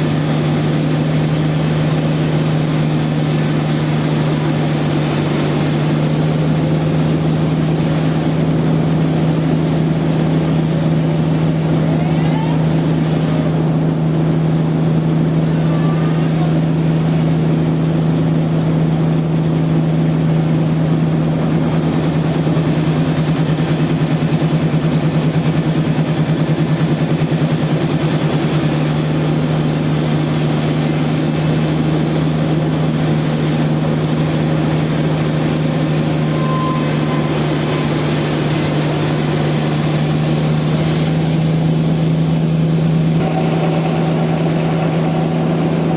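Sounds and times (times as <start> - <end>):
sawmill machinery droning: 0.0 - 45.9.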